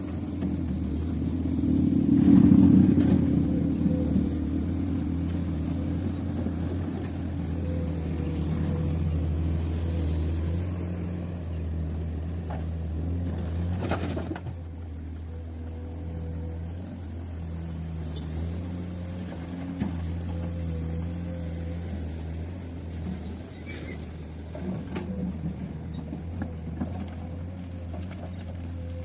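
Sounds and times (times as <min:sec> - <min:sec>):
heavy diesel engine droning: 0:00.0 - 0:29.0.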